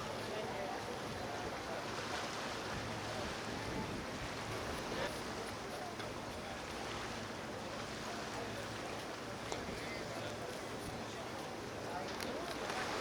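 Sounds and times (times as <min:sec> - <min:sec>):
faint distant voices: 0:00.0 - 0:13.0
wind: 0:00.0 - 0:13.0.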